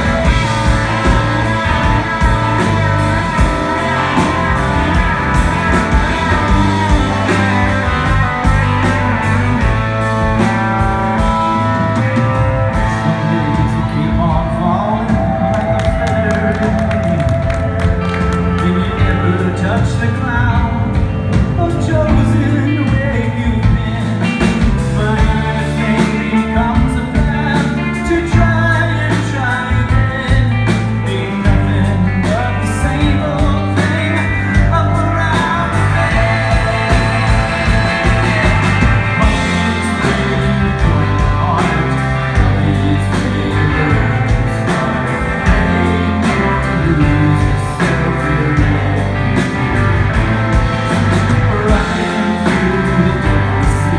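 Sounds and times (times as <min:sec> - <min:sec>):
drums: 0:00.0 - 0:53.9
electric bass: 0:00.0 - 0:53.9
electric guitars: 0:00.0 - 0:53.9.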